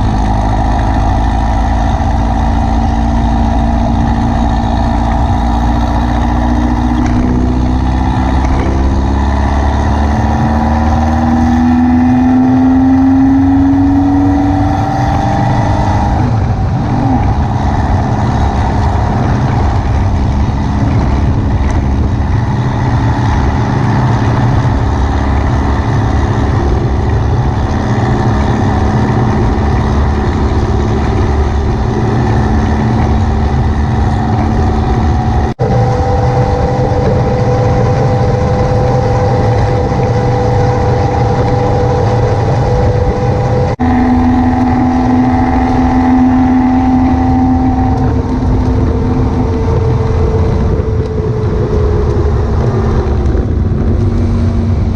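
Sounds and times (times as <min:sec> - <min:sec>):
buggy engine running: 0:00.0 - 0:54.9
road and wind noise: 0:00.0 - 0:54.9.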